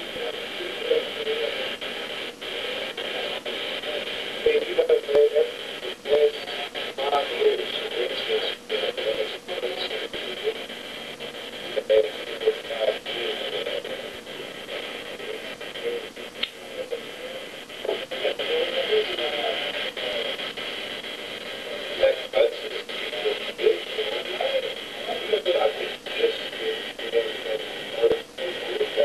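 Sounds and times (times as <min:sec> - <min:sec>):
muffled talking: 0:00.0 - 0:29.0
steady hiss: 0:00.0 - 0:29.0.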